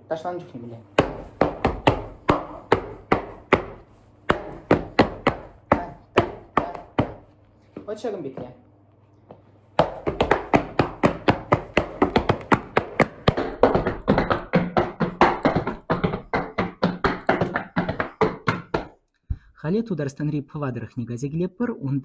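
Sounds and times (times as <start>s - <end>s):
boots stamping on hard floor: 1.0s - 8.6s, 9.3s - 19.5s.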